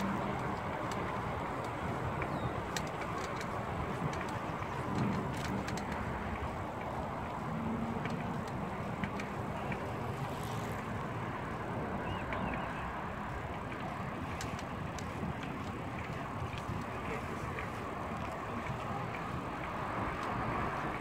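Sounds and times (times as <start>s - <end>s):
faint clicks and rattles: 0.0s - 11.1s, 13.4s - 21.0s
bicycle tyre rumble: 0.0s - 21.0s
wind rushing on microphone: 0.0s - 21.0s.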